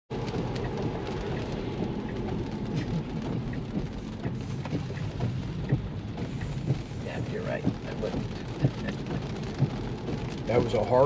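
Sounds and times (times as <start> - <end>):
rain on car glass and roof: 0.1 - 11.0
raindrop taps: 0.1 - 11.0
tyres hissing on wet road: 0.1 - 11.0.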